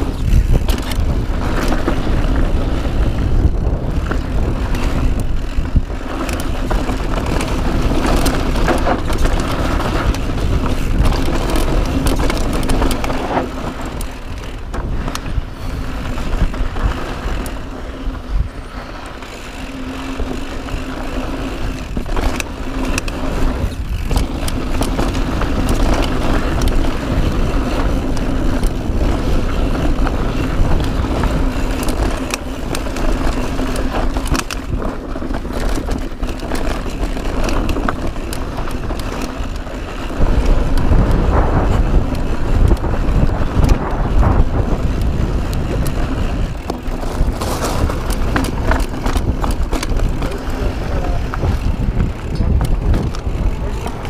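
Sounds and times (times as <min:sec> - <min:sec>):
bike clicking and rattling: 0:00.0 - 0:54.0
tyres rumbling on dirt: 0:00.0 - 0:54.0
wind buffeting microphone: 0:00.0 - 0:54.0.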